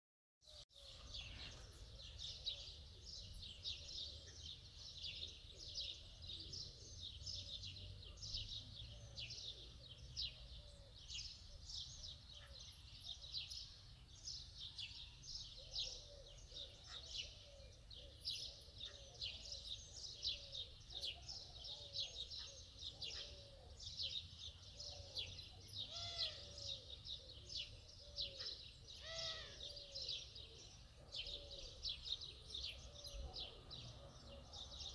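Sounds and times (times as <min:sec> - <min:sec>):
small birds chirping: 0:00.5 - 0:34.9.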